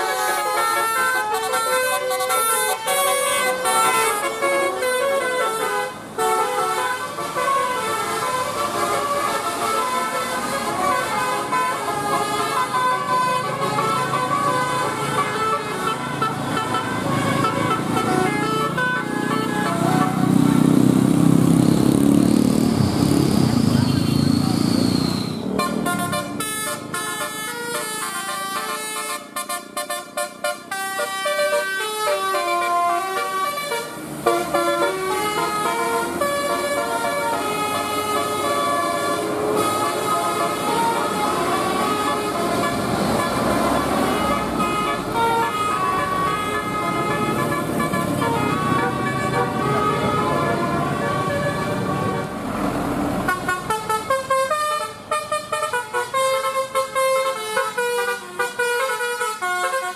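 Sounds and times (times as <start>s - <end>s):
multi-note bus horn tune: 0.0s - 20.8s, 25.6s - 52.5s, 53.2s - 59.9s
engine and traffic noise: 0.0s - 59.9s.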